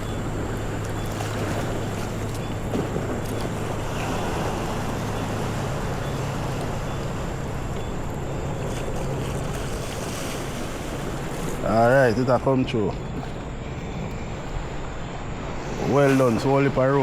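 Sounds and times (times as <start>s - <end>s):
low motor hum: 0.0s - 15.9s
surf: 0.0s - 17.0s.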